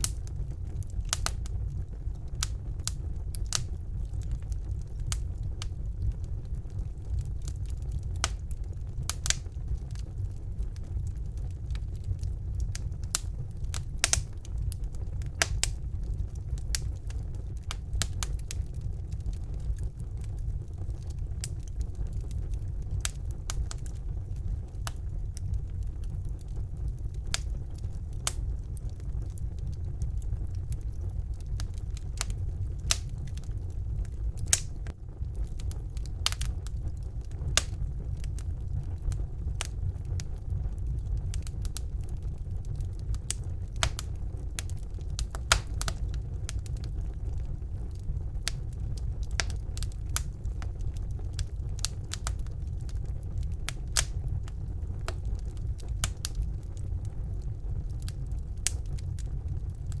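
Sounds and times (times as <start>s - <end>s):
burning logs crackling and popping: 0.0s - 60.0s
low rumble of flames: 0.0s - 60.0s.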